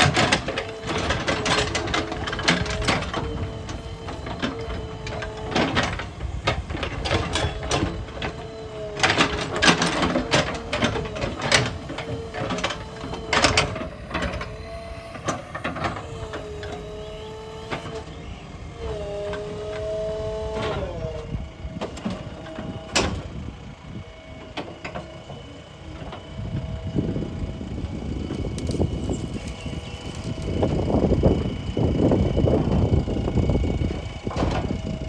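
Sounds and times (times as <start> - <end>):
backhoe engine and hydraulics whine: 0.0 - 35.0.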